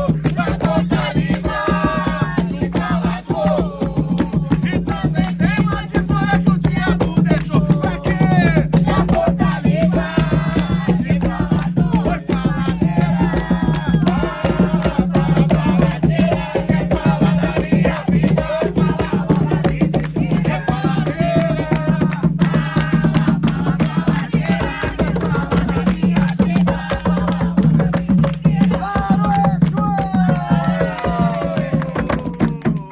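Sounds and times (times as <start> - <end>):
hand drums beating: 0.0 - 32.9
voices singing a chant: 0.0 - 32.9.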